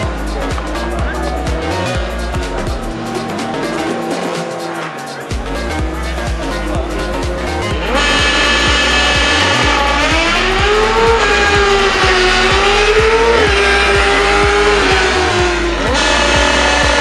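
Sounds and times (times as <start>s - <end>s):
background music with steady beat: 0.0s - 17.0s
race car engine revving: 0.0s - 17.0s.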